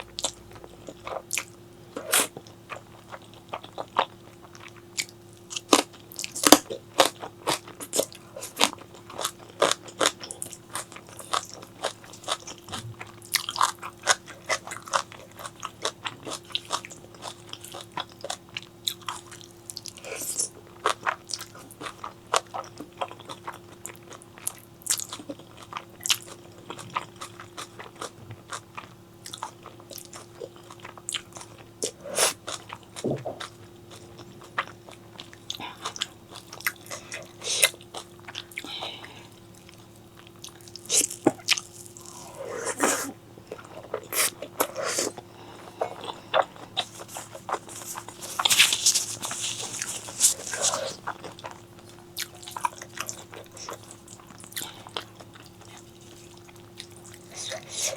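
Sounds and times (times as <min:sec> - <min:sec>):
chewing crunchy food: 0:00.0 - 0:57.9.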